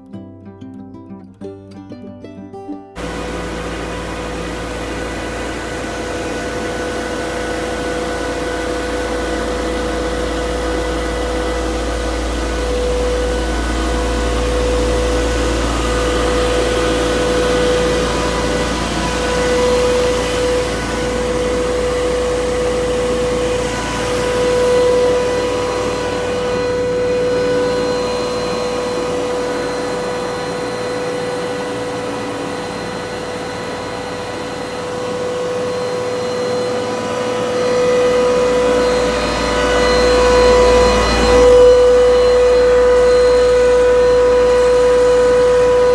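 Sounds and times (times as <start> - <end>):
chiller machine whine and hum: 3.0 - 45.9.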